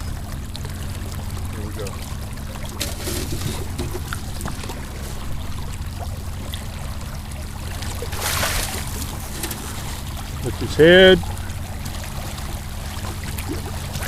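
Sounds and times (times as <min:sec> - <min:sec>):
low steady hum: 0:00.0 - 0:14.0
water splashing against a boat: 0:00.0 - 0:14.0
loud fish splash: 0:02.1 - 0:14.0.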